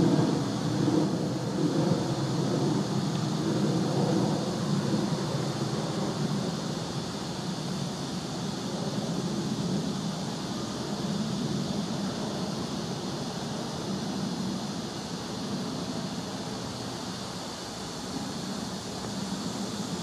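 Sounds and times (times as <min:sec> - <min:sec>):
even hiss: 0:00.0 - 0:20.0.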